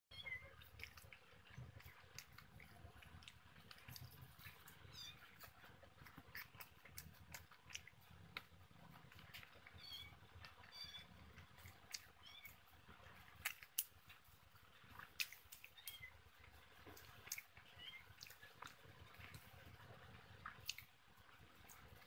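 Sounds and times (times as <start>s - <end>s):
chewing and lip smacks: 0.2s - 22.0s.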